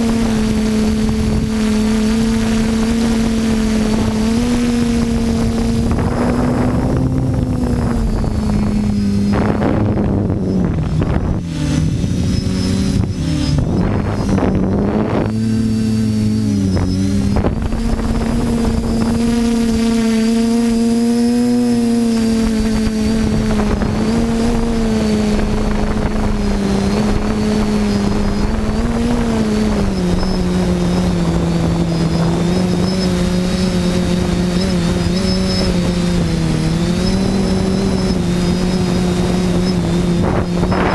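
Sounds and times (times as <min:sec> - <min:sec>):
quadcopter propellers whining: 0:00.0 - 0:40.9.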